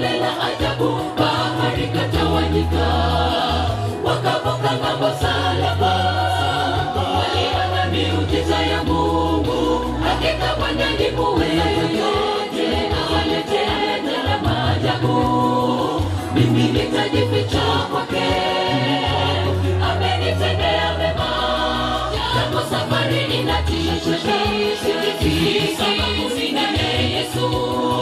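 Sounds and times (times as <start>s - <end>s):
choir singing gospel in harmony: 0.0s - 28.0s.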